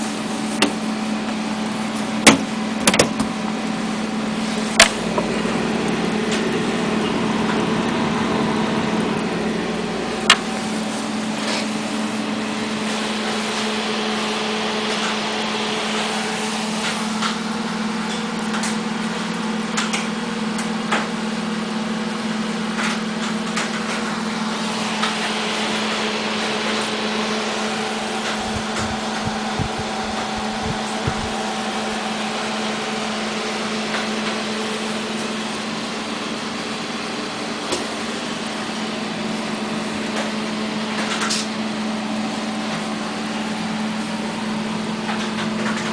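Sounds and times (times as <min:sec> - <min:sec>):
computer fans and pump humming: 0:00.0 - 0:45.9.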